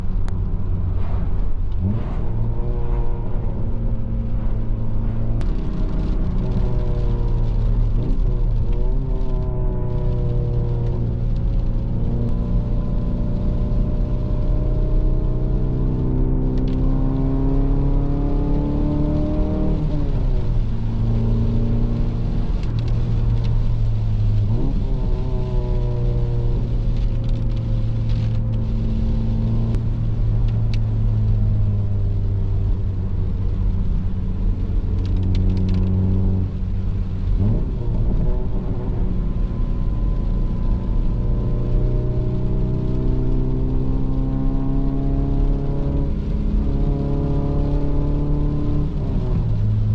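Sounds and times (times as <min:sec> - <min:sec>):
car engine accelerating: 0:00.0 - 0:49.9.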